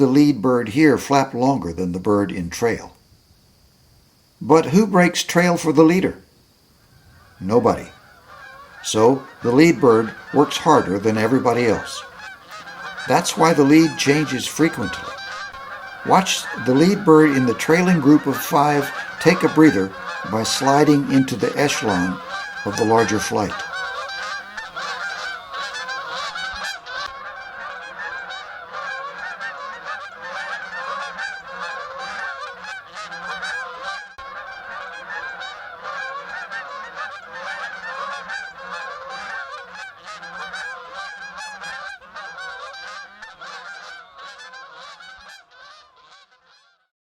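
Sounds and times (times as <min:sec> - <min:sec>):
geese honking in flight: 0:04.5 - 0:46.9.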